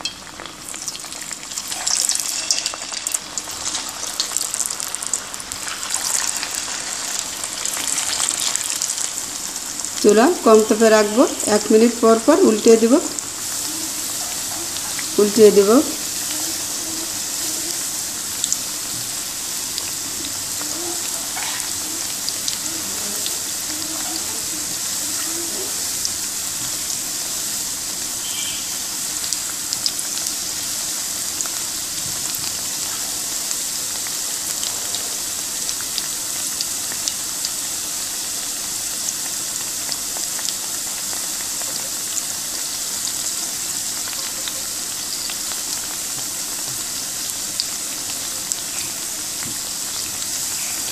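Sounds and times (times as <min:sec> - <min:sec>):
oil popping and crackling: 0:00.0 - 0:10.1, 0:13.0 - 0:50.9
food deep-frying in hot oil: 0:00.0 - 0:50.9.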